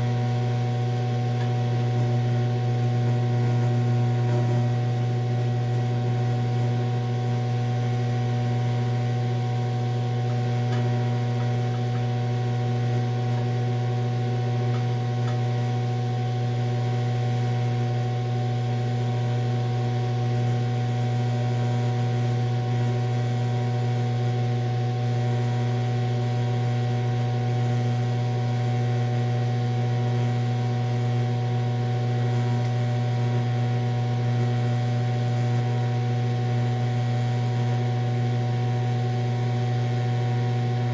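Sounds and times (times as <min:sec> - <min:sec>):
welder electrical hum with hiss: 0:00.0 - 0:40.9.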